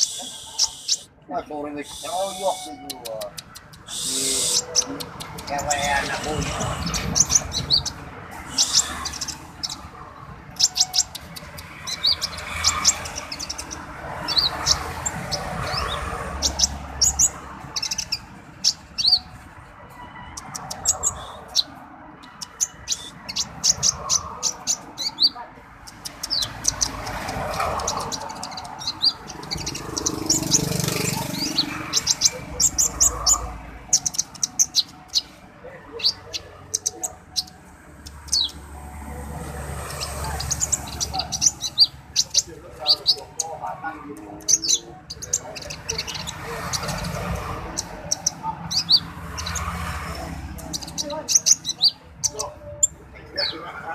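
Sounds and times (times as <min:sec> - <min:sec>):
bird chirping song: 0:00.0 - 0:53.9.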